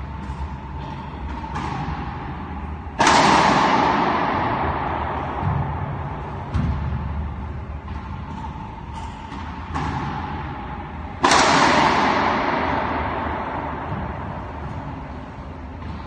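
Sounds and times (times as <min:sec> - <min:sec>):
racquet striking ball with echo: 0:00.0 - 0:16.0.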